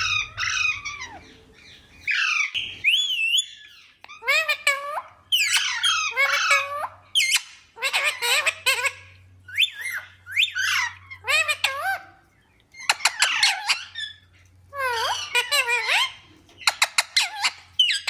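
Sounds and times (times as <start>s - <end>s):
parakeet squawking: 0.0s - 12.2s, 12.8s - 18.0s.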